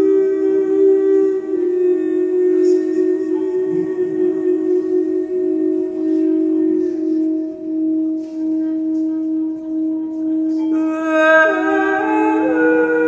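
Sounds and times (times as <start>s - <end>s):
singing bowl ringing drone: 0.0s - 13.0s.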